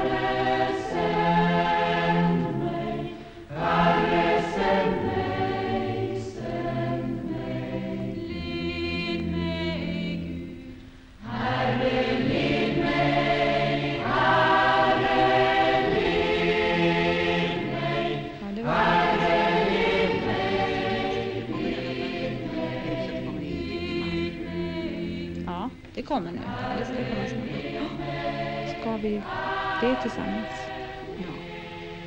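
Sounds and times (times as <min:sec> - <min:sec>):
choir singing a hymn: 0:00.0 - 0:32.0.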